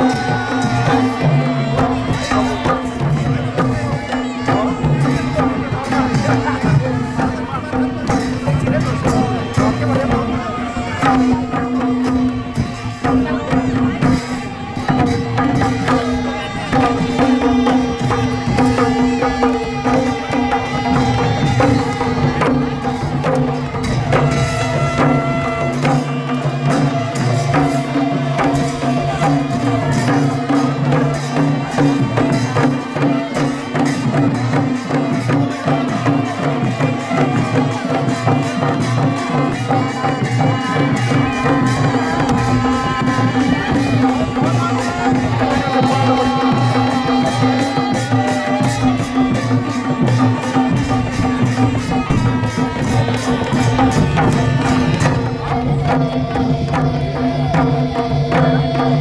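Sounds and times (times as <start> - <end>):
hand drums beating fast rhythm: 0.0 - 59.0.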